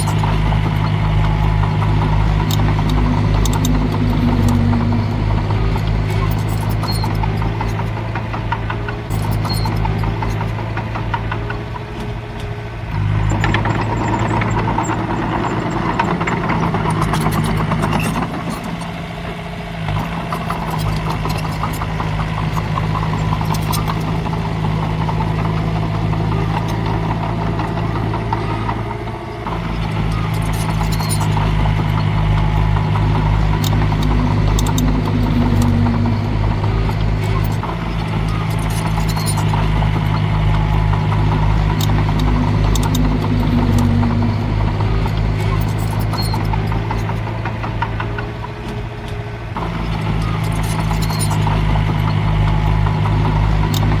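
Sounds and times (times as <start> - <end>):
heavy diesel engine running: 0.0 - 54.0
sharp metallic clicks: 0.0 - 54.0.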